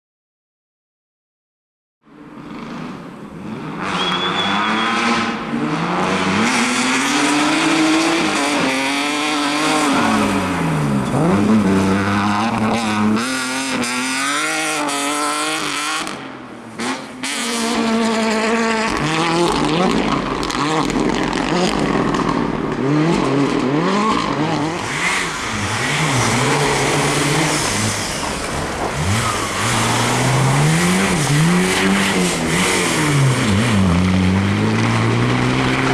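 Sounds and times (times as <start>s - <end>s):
rally car engine revving: 2.2s - 35.9s.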